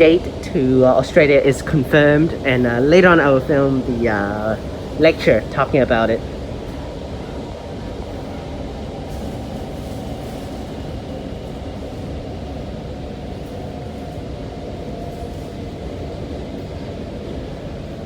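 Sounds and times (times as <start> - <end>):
train rumbling at speed: 0.0 - 18.0.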